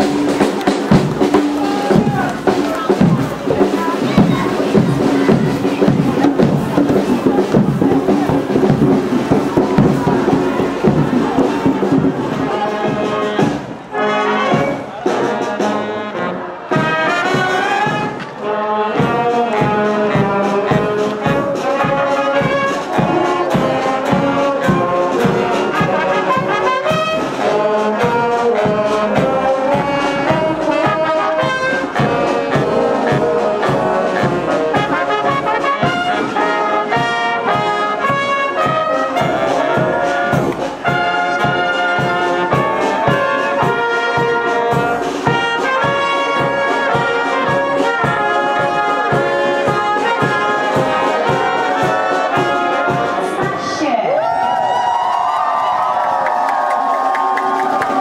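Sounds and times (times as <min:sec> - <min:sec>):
marching band playing a march: 0:00.0 - 0:54.0, 0:55.5 - 0:58.0.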